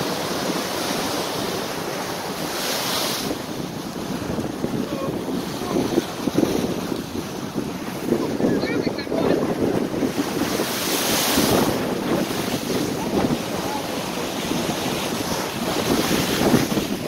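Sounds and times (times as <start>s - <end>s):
sea waves breaking against wall: 0.0s - 17.0s
wind buffeting microphone: 3.2s - 17.0s.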